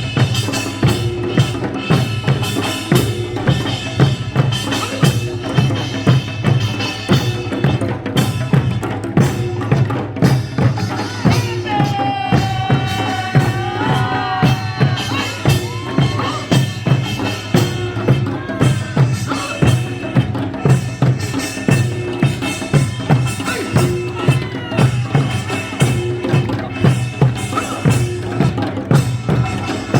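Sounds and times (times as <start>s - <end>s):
drums beating steady rhythm: 0.0s - 29.9s.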